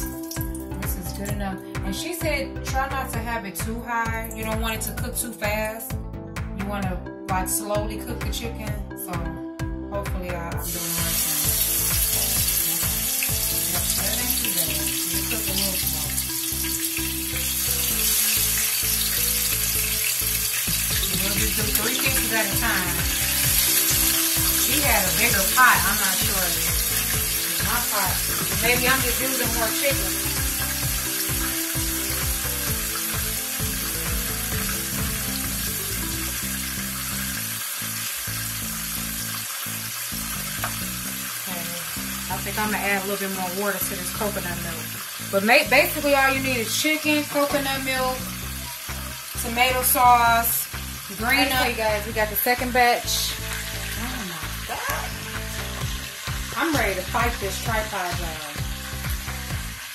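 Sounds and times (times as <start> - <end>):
chicken sizzling in a pot: 0.0 - 1.8, 10.6 - 59.9.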